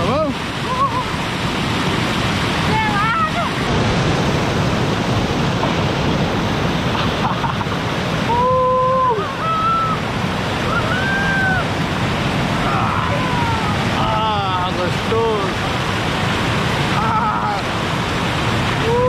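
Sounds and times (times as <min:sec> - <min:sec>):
water rushing over rock ledge: 0:00.0 - 0:19.0.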